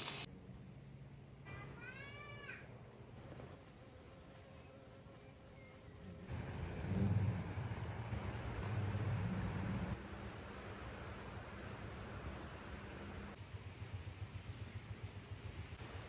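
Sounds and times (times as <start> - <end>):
insects trilling: 0.0 - 15.8.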